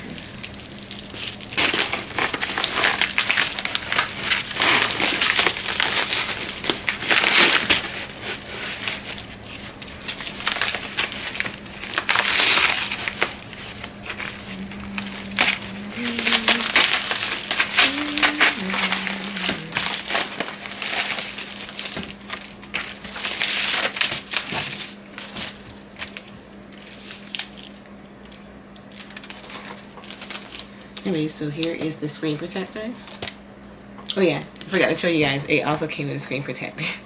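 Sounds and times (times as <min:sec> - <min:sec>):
plastic packaging crinkling: 0:00.0 - 0:27.9, 0:28.8 - 0:31.0.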